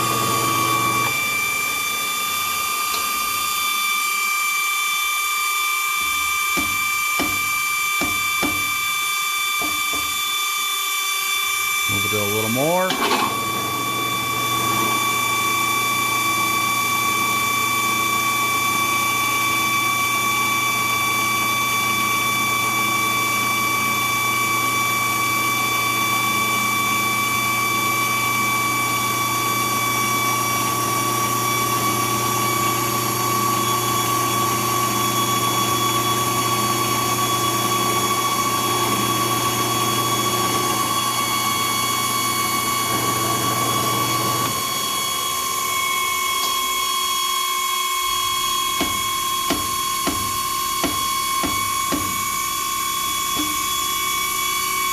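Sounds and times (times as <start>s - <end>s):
drill press hum: 0.0s - 54.9s
grinder whine: 0.0s - 54.9s.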